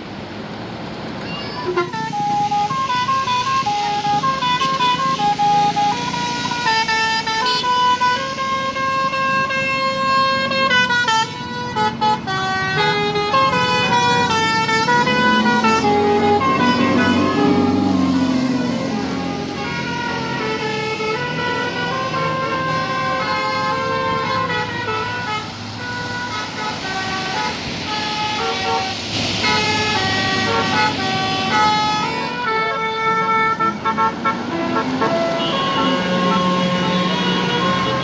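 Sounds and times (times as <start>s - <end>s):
bus horn playing melody: 1.4s - 38.0s.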